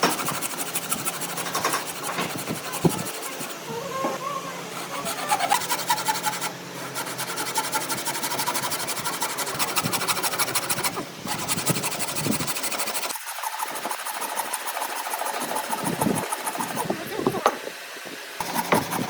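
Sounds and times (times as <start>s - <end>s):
tool rasping wood: 0.0s - 4.1s, 4.7s - 17.6s, 18.4s - 19.0s.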